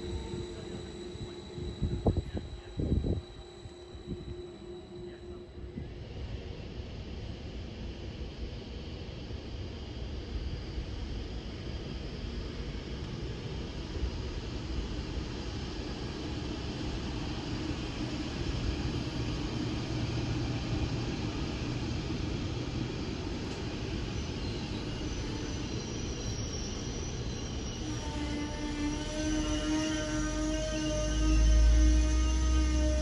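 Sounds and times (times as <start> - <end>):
electric locomotive rumbling: 0.0 - 33.0
train high whines: 0.0 - 33.0.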